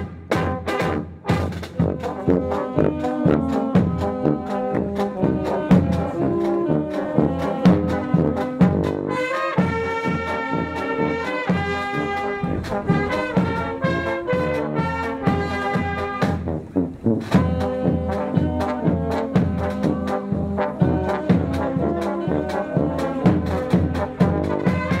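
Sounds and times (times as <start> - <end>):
brass band playing a march: 0.0 - 25.0
steady drum beat: 0.0 - 25.0.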